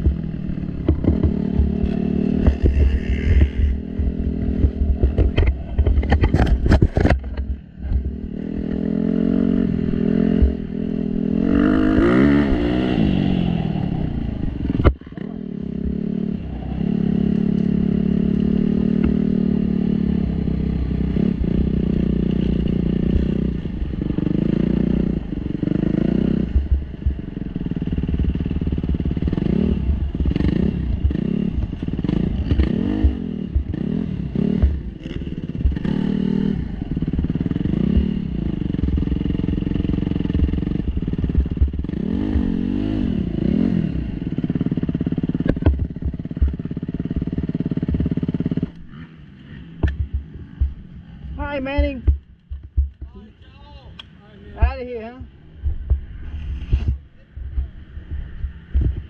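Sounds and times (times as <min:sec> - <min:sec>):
motocross bike engine revving: 0:00.0 - 0:07.1, 0:07.9 - 0:52.8.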